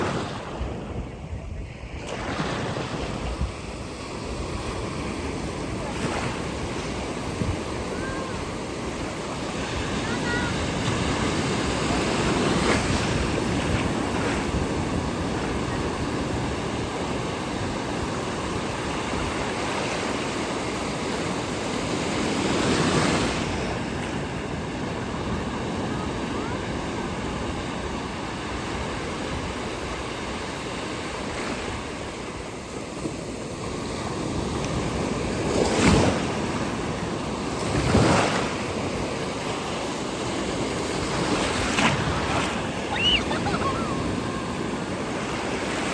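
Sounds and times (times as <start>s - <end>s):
ocean waves breaking: 0.0s - 45.9s
wind on microphone: 0.0s - 45.9s.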